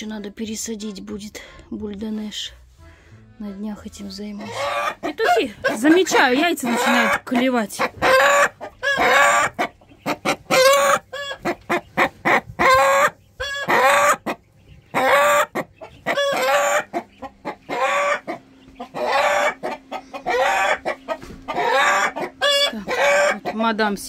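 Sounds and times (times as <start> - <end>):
chickens clucking and cackling: 2.3 - 24.0.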